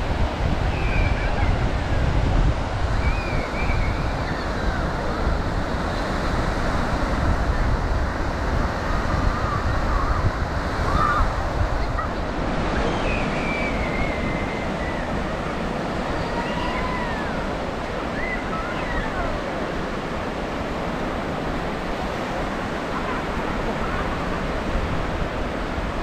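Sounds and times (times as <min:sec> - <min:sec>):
ocean waves washing onto beach: 0:00.0 - 0:26.0.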